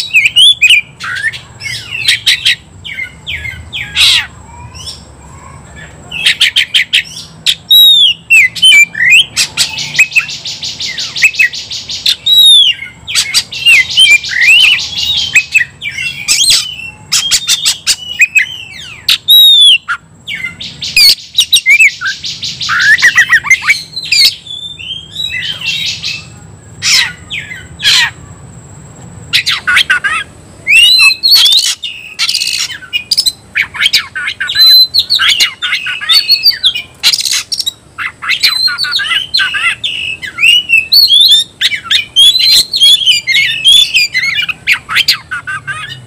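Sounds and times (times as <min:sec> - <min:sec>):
bird singing whistles and rattles: 0:06.2 - 0:28.1, 0:29.3 - 0:46.0.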